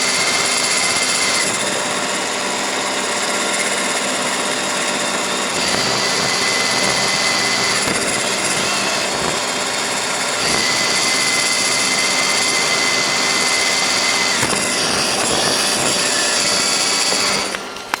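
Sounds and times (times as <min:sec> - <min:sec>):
robot vacuum whirring: 0:00.0 - 0:18.0
thin high whine: 0:00.0 - 0:18.0.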